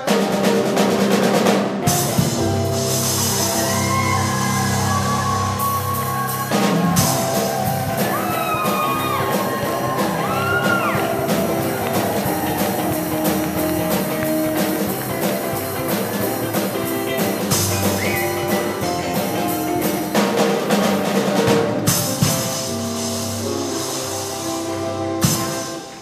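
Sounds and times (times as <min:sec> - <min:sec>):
electric bass: 0:00.0 - 0:25.6
drum kit with cymbal crashes: 0:00.0 - 0:26.0.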